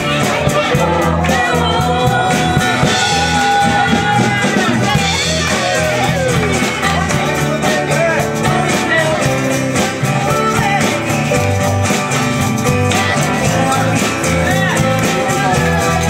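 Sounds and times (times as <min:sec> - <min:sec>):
women singing: 0:00.0 - 0:11.6, 0:12.6 - 0:16.0
drum beat: 0:00.0 - 0:16.0
live band playing: 0:00.0 - 0:16.0.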